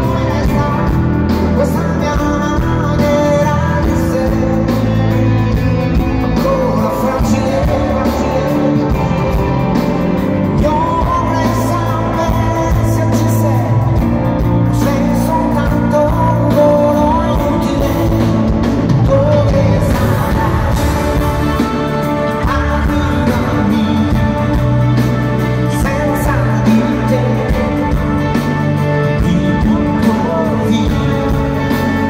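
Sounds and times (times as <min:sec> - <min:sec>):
live pop-rock band: 0:00.0 - 0:32.0
man singing lead vocals: 0:00.0 - 0:32.0.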